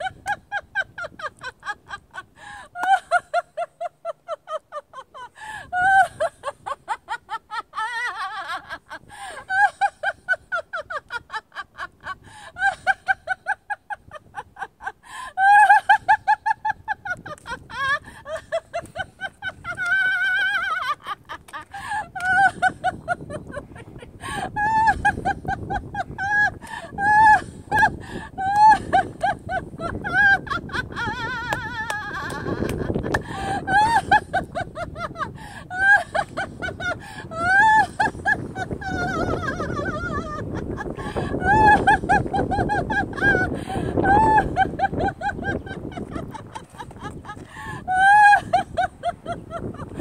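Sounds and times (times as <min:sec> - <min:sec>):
woman laughing: 0:00.0 - 0:50.0.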